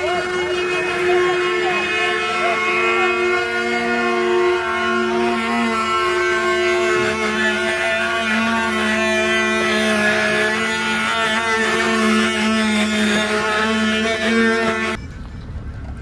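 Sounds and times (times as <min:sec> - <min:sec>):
wooden axle squealing: 0:00.0 - 0:16.0.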